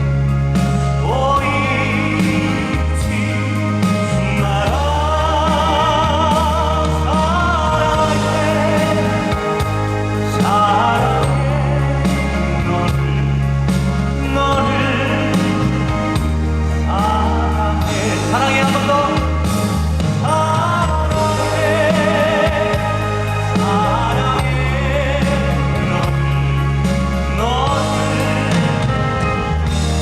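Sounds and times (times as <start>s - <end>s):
live band music: 0.0s - 30.0s.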